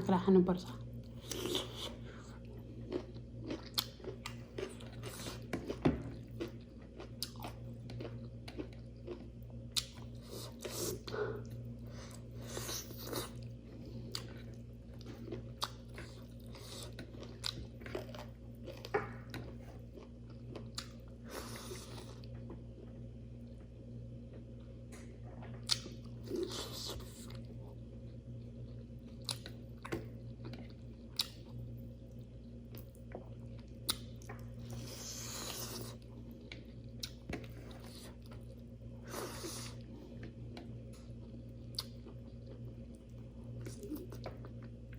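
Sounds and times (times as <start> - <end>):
chewing and crunching food: 0.0 - 44.9
steady low hum: 0.0 - 44.9.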